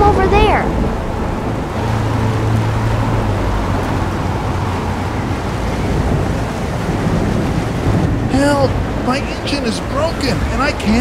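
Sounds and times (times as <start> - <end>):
low boat engine hum: 0.0 - 11.0
rough waves: 0.0 - 11.0
wind: 0.0 - 11.0.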